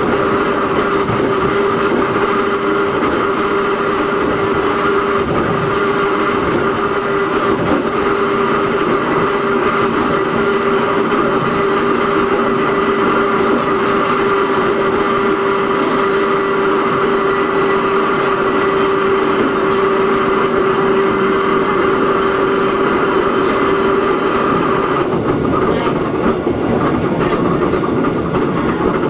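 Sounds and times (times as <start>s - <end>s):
traction motor whine: 0.0s - 29.0s
train wheel and rail noise: 0.0s - 29.0s.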